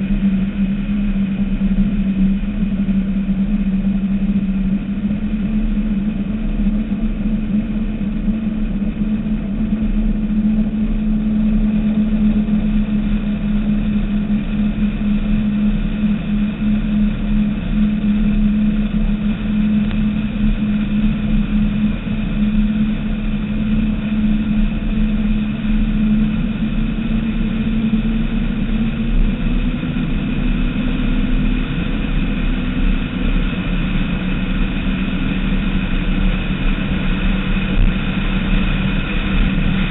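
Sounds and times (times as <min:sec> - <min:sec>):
rush of wind and water: 0:05.6 - 0:39.9.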